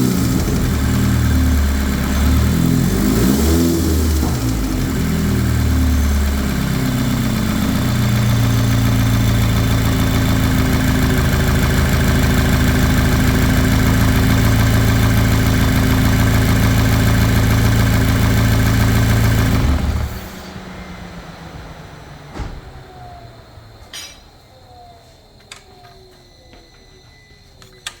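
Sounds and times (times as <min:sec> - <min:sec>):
engine ticking after shutdown: 0:00.0 - 0:23.8
car engine idling: 0:00.0 - 0:25.0.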